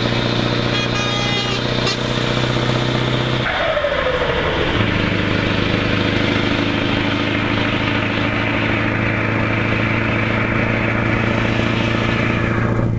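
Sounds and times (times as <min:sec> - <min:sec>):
truck engine idling: 0:00.0 - 0:12.9.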